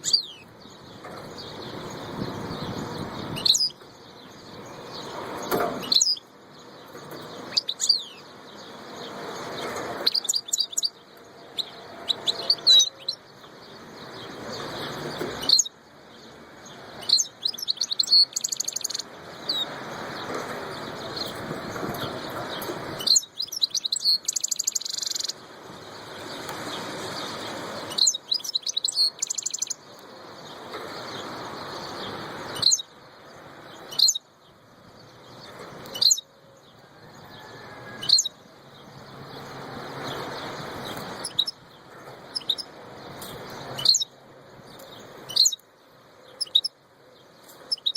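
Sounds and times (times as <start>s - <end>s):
bird chirping and trilling: 0.0s - 19.8s, 20.7s - 25.5s, 27.1s - 34.4s, 35.0s - 36.3s, 37.9s - 45.6s, 46.2s - 46.8s, 47.4s - 47.9s.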